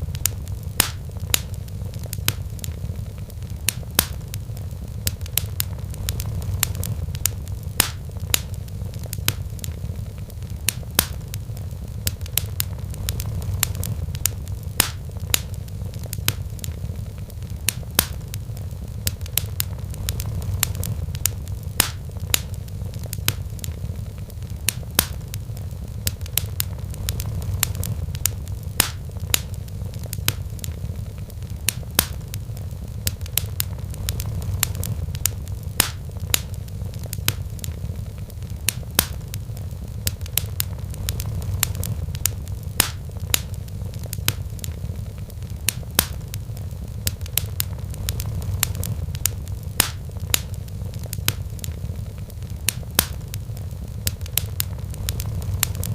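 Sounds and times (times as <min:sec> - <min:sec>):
low rumble of fire: 0:00.0 - 0:55.9
wood fire crackling: 0:00.0 - 0:55.9.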